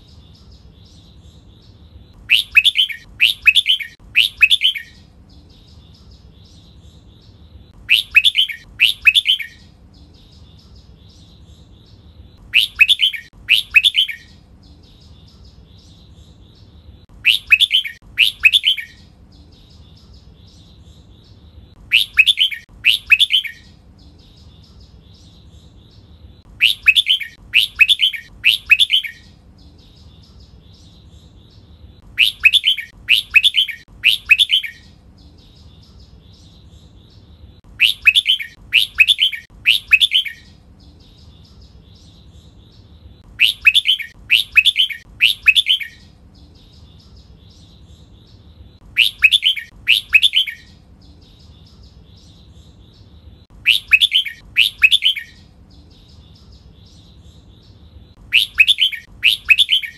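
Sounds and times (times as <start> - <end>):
bird song phrases: 0.0 - 59.9
faint high chirping: 0.0 - 59.9.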